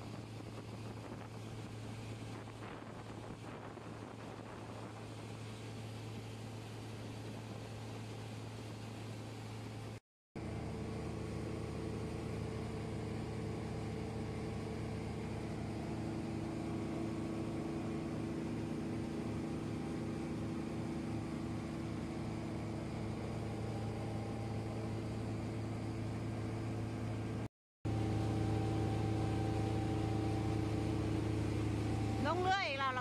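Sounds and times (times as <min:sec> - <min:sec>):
motorboat engine drone: 0:00.0 - 0:33.0
water rushing from hull: 0:00.0 - 0:33.0.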